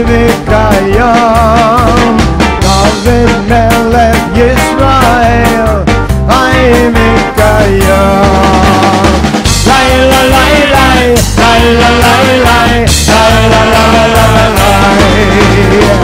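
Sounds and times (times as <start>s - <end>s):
repeating bass beat: 0.0s - 16.0s.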